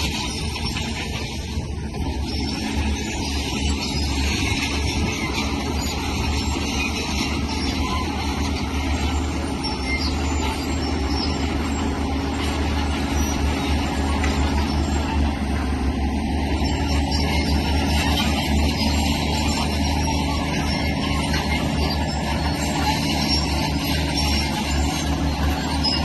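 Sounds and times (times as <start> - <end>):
diesel engine low drone: 0.0 - 26.0
machinery clatter and hiss: 0.0 - 26.0.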